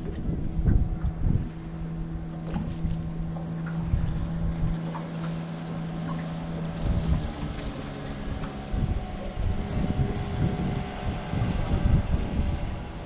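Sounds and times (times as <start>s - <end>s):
boat engine hum: 0.0s - 13.0s
wind buffeting microphone: 0.0s - 13.0s.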